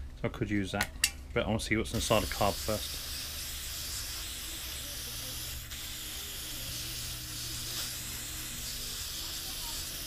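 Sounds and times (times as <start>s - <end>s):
aerosol spray hissing: 1.9s - 10.0s.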